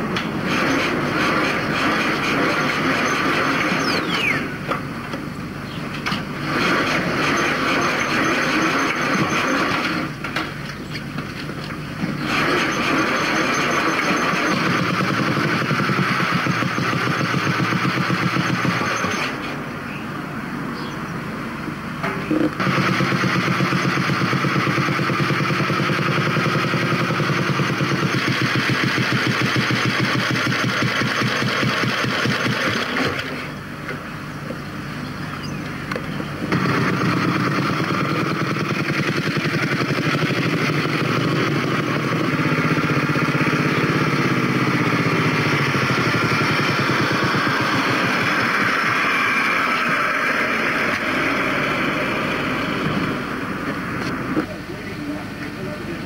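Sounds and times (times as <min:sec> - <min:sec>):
motorcycle engine running: 0:00.0 - 0:19.4, 0:22.1 - 0:33.6, 0:35.9 - 0:55.8.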